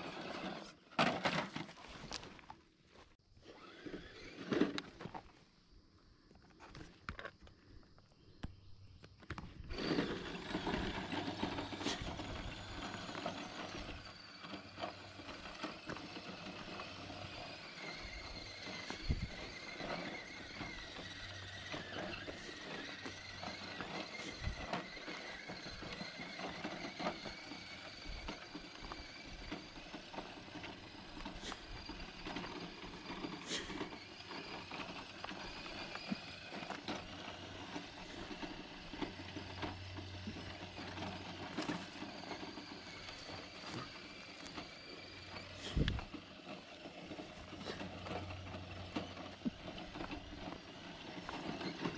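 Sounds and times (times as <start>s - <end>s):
electric motor and gears whining: 0.0s - 5.7s, 6.4s - 51.9s.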